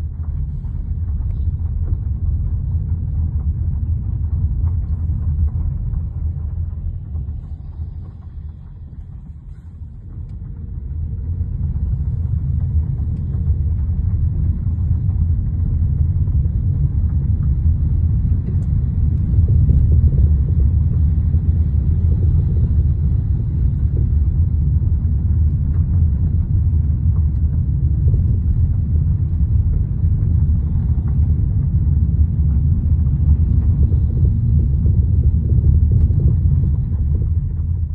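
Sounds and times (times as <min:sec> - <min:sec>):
car tyre rumble: 0:00.0 - 0:37.9.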